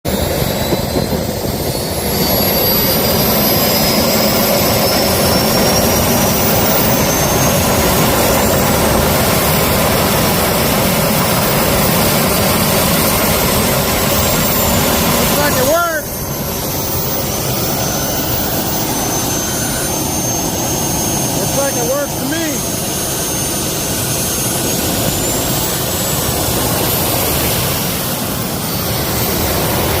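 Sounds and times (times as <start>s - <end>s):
jet engine spooling up: 0.1s - 30.0s.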